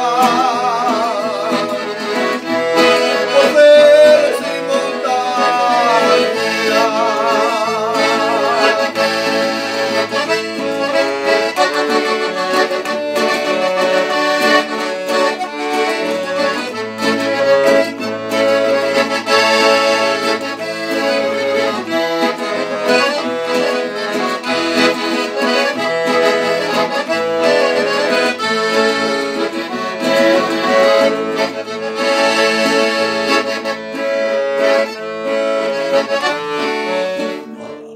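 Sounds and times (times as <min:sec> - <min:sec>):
piano accordion playing: 0:00.0 - 0:37.9
strummed acoustic guitar: 0:00.0 - 0:37.9.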